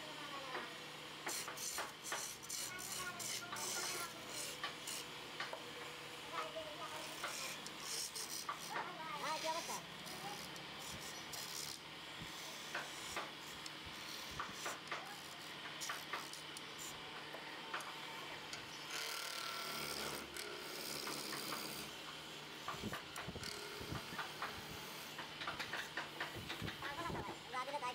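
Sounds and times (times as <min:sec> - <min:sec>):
lathe motor humming: 0:00.2 - 0:27.0
wood scraping on a lathe: 0:00.5 - 0:17.3, 0:17.9 - 0:27.0.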